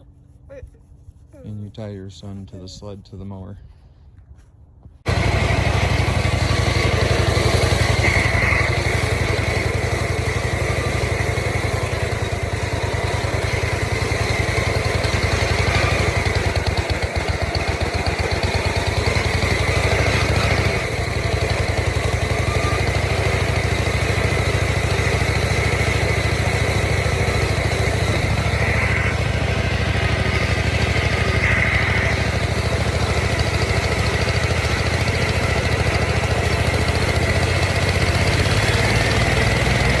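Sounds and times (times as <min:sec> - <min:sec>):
riding lawn mower engine running: 0:05.1 - 0:40.0.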